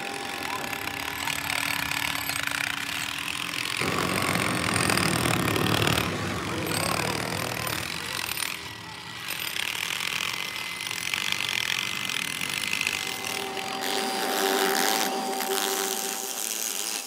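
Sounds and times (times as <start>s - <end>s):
machinery hissing and grinding: 0.0s - 17.0s
steady whine: 0.0s - 17.0s.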